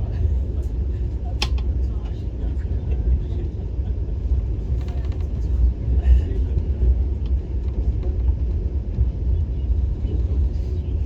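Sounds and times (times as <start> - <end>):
train coach rumbling: 0.0 - 11.0.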